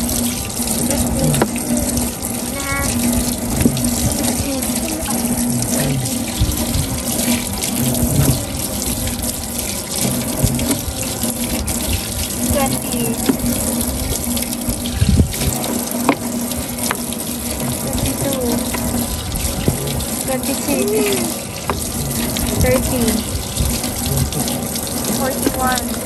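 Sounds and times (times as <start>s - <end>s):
tap water splashing on ground: 0.2s - 2.2s, 2.8s - 26.0s.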